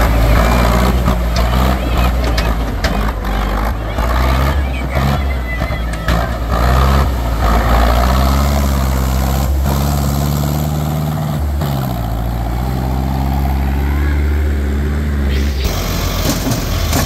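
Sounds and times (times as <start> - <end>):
tractor churning through mud: 0.0 - 17.0
tractor diesel engine under load: 0.0 - 17.0.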